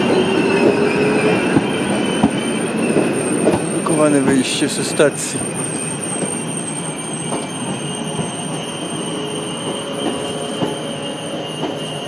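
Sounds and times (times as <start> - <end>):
rumble of wheels on rail: 0.0 - 12.0.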